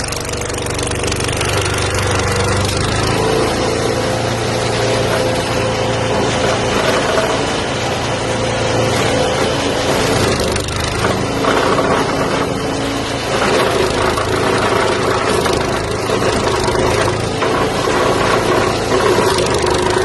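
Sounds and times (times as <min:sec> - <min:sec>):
wood chipper engine running: 0:00.0 - 0:20.0.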